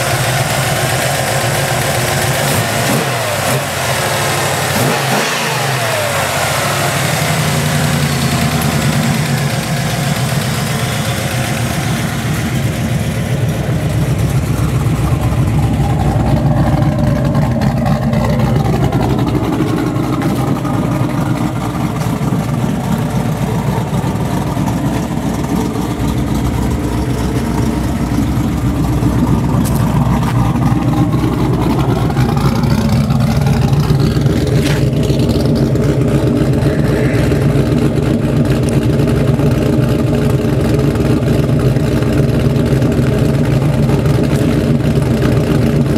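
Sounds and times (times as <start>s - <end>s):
car engine exhaust note: 0.0s - 45.9s.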